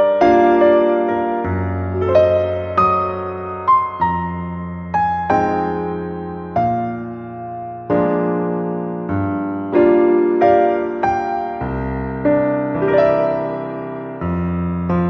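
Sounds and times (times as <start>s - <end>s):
slow gentle piano melody: 0.0s - 15.0s.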